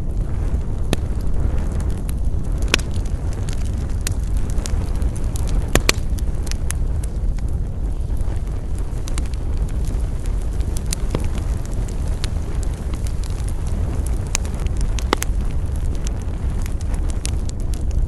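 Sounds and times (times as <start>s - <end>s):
campfire crackling and popping: 0.0s - 18.0s
steady low rumble: 0.0s - 18.0s.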